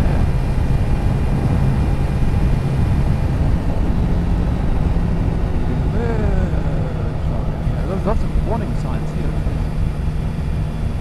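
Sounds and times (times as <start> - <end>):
motorcycle engine cruising: 0.0 - 11.0
wind and road noise: 0.0 - 11.0.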